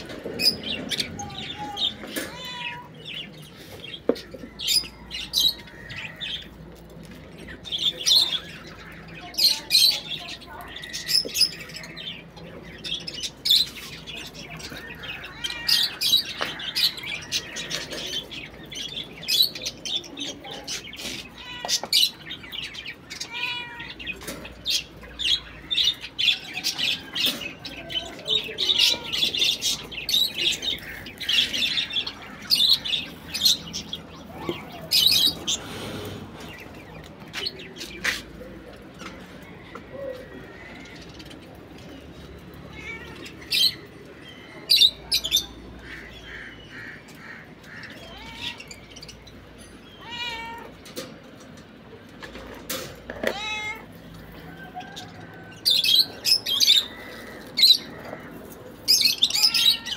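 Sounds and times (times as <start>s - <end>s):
budgerigars chirping and chattering: 0.0s - 38.6s, 40.5s - 50.3s, 54.4s - 59.9s.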